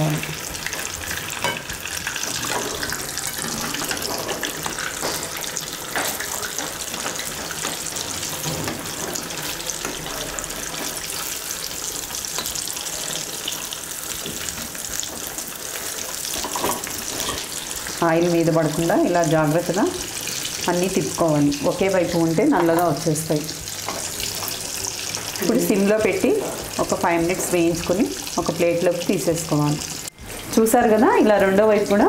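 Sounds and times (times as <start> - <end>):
food deep-frying in hot oil: 0.0 - 32.0.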